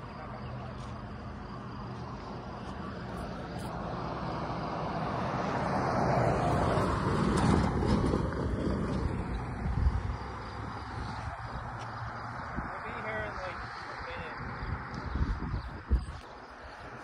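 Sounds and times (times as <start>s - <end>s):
tyres over railroad crossing: 0.0s - 15.0s
pickup truck driving past: 1.0s - 14.9s.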